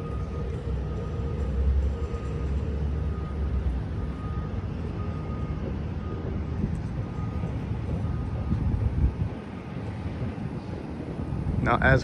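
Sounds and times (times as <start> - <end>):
road traffic rumbling: 0.0 - 12.0.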